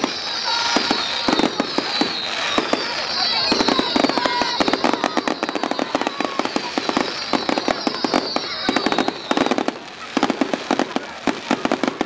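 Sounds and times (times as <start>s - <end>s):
high falling whistle: 0.0s - 9.8s
fireworks bangs and crackles: 0.0s - 12.0s.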